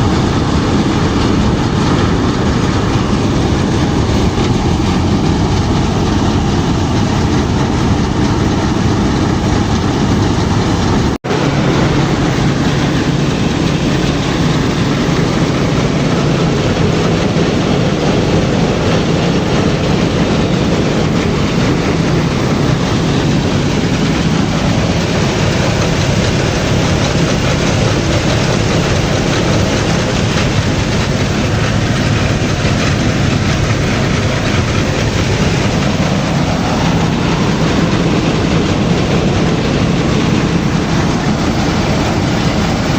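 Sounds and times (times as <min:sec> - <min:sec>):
threshing machine clattering: 0:00.0 - 0:42.9.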